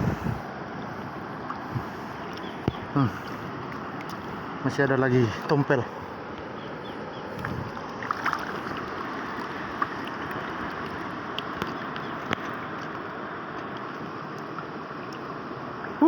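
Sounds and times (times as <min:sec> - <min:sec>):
water rushing: 0:00.0 - 0:16.0
wind: 0:00.0 - 0:16.0.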